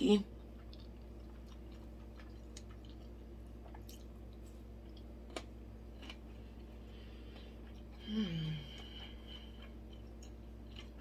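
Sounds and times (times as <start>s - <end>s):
faint low hum: 0.0s - 11.0s
wet chewing sounds: 0.3s - 11.0s.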